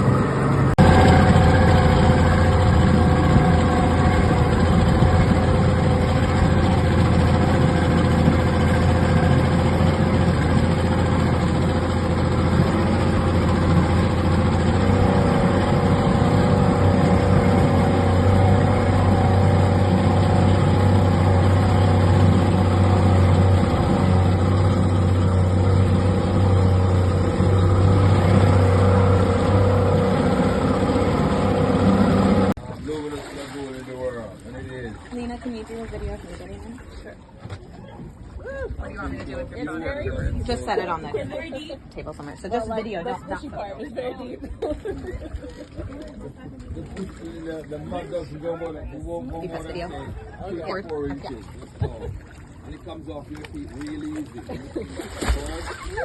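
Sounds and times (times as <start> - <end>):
boat motor humming: 0.0 - 56.0.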